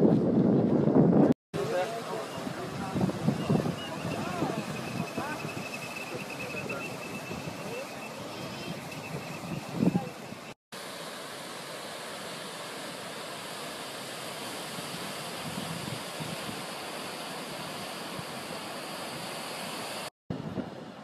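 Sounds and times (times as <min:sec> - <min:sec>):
surf breaking over rocks: 0:01.6 - 0:19.3.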